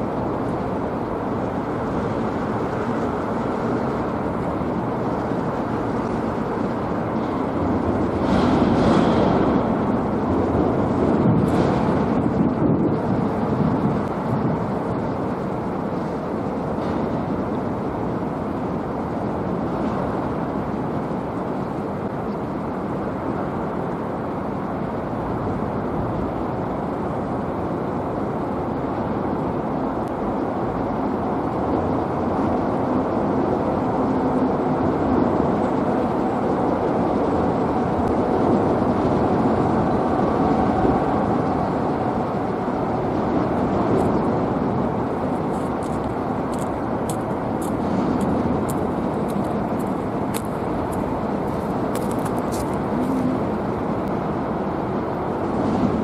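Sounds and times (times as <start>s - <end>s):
rumble of traffic on bridge: 0.0s - 56.0s.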